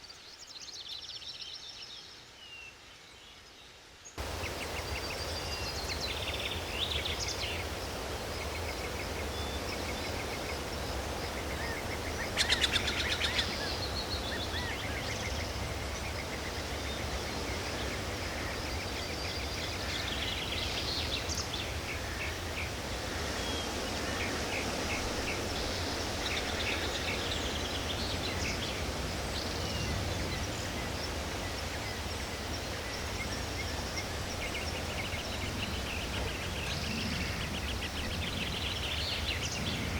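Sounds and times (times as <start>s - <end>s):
songbirds calling and chirping: 0.0s - 39.9s.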